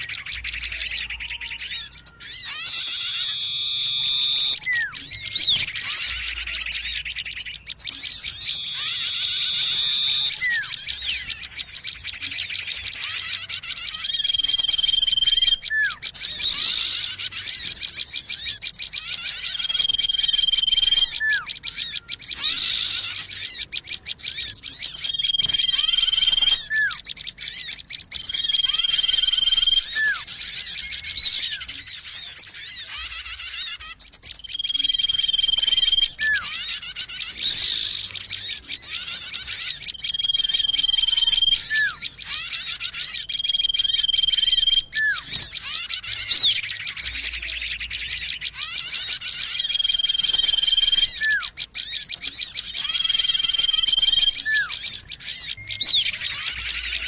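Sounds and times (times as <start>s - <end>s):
high bird whistle: 0.0s - 57.0s
songbirds chirping: 0.0s - 57.0s.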